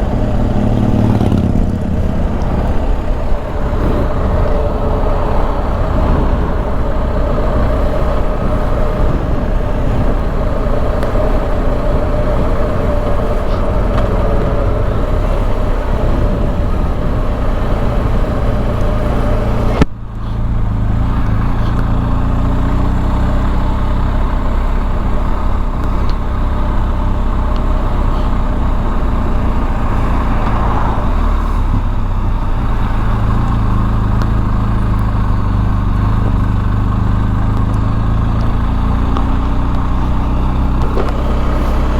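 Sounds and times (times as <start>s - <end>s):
motorcycle engine running: 0.0s - 41.9s
road and wind noise: 0.0s - 41.9s.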